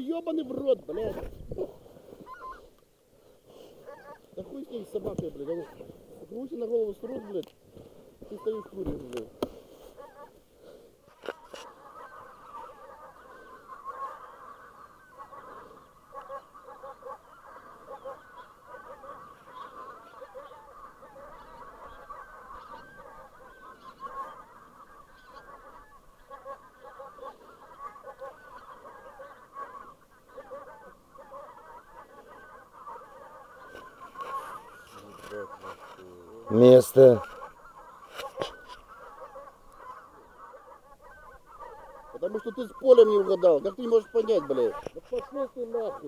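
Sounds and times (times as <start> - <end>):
geese honking: 0.0 - 46.0.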